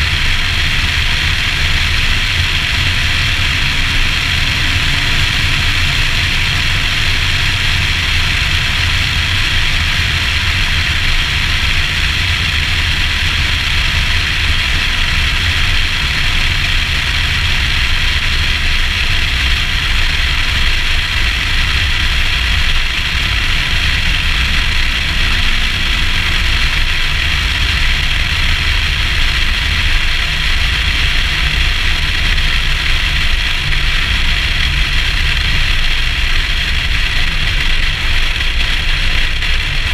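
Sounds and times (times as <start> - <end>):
car engine and tyres rumbling: 0.0 - 39.9
wind rushing on microphone: 0.0 - 39.9.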